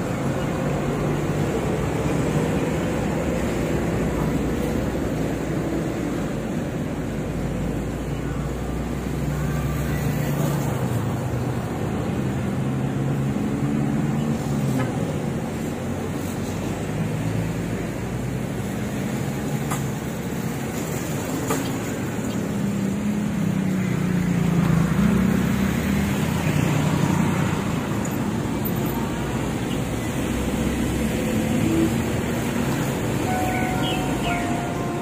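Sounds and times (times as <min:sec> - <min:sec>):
traffic engines idling and passing: 0:00.0 - 0:35.0.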